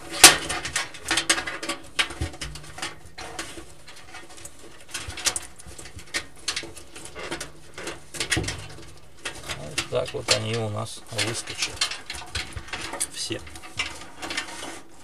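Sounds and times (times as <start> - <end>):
cables rustling and scraping: 0.0 - 15.0.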